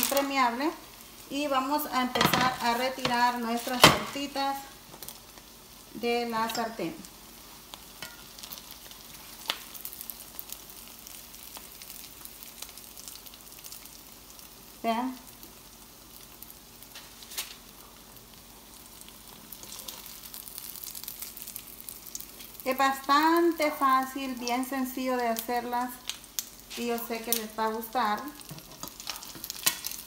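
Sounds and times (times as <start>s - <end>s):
patties sizzling in oil: 0.0s - 30.0s.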